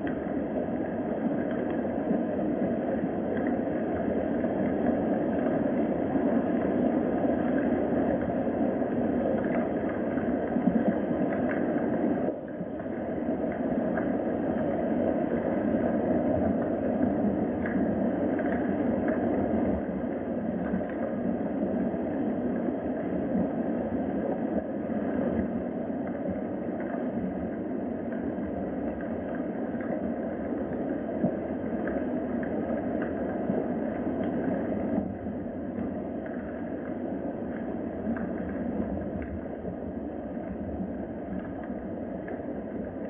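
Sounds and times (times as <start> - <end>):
faint ticks: 0.0 - 21.8, 22.5 - 43.0.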